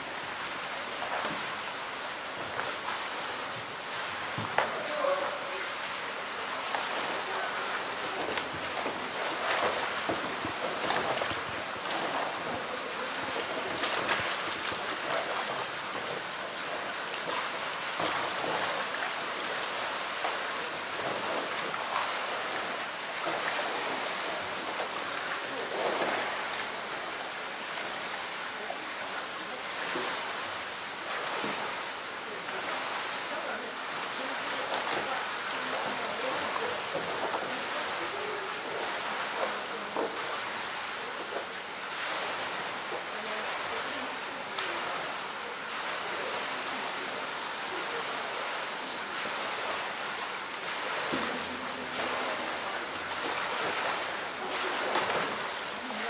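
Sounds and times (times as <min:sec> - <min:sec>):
water sloshing and splashing: 0:00.1 - 0:56.0.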